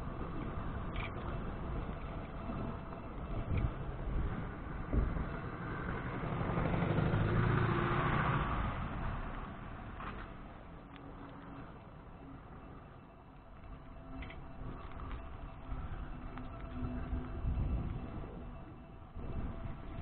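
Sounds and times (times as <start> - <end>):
road vehicle passing by: 0.0 - 20.0.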